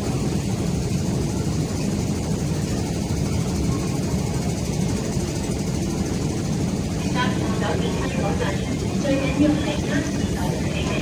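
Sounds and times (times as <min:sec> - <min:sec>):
escalator rumbling: 0:00.0 - 0:11.0.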